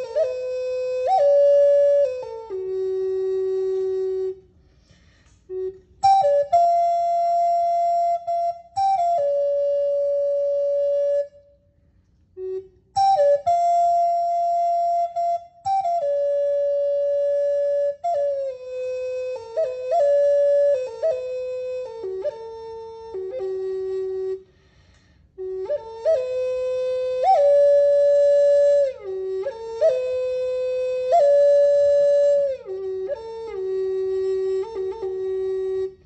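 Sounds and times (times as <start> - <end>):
wooden flute melody: 0.0 - 36.0.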